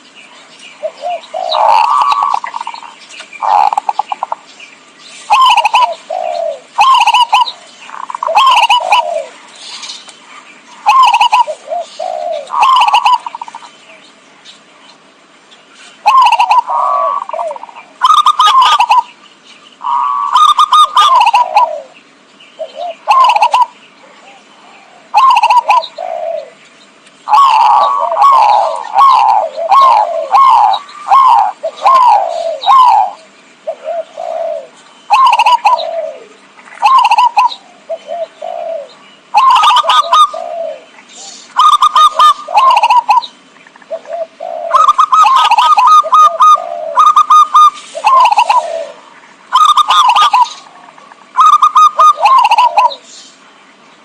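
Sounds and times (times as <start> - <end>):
dove cooing: 0.8 - 4.5, 5.2 - 10.0, 10.8 - 13.8, 16.0 - 19.2, 19.8 - 22.0, 22.6 - 26.6, 27.2 - 53.1.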